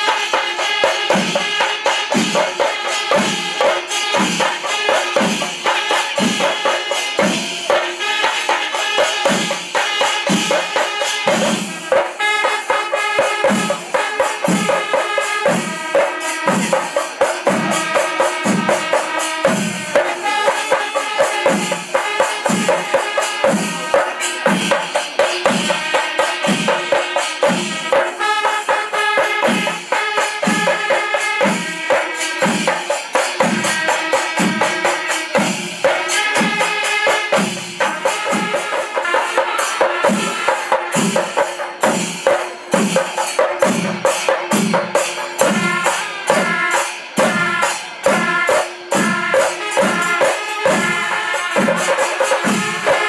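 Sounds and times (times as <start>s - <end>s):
cymbals clashing: 0.0s - 53.0s
drums beating: 0.0s - 53.0s.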